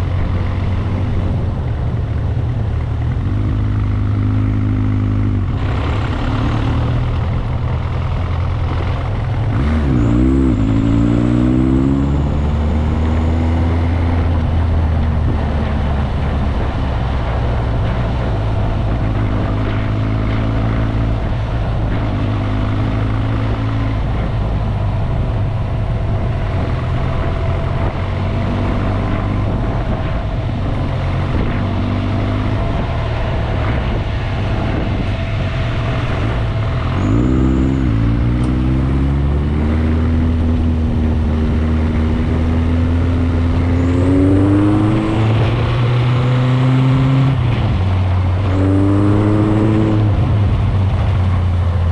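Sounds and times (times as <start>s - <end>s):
motorcycle engine revving: 0.0s - 51.9s
steady rushing noise: 0.0s - 51.9s.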